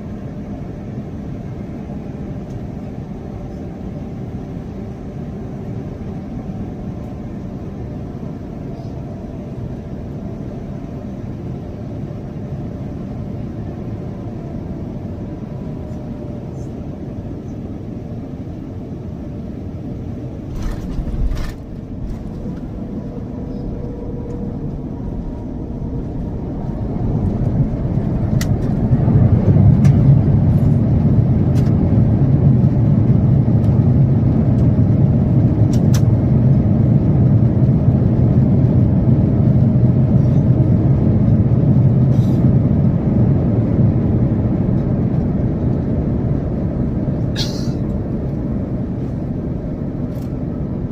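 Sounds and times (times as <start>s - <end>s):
airplane cabin rumble: 0.0s - 50.9s.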